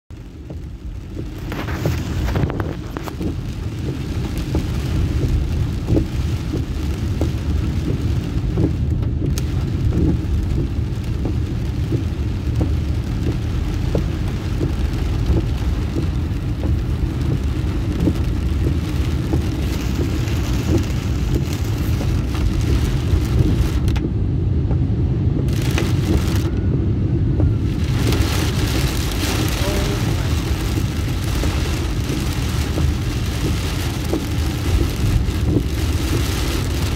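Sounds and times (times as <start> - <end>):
heavy rain on car roof: 0.1 - 36.9
road and engine noise: 0.1 - 36.9.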